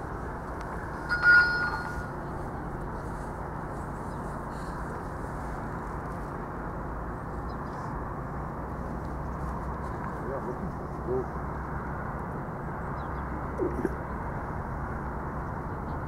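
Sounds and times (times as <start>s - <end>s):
outdoor background rumble and hiss: 0.0s - 16.0s.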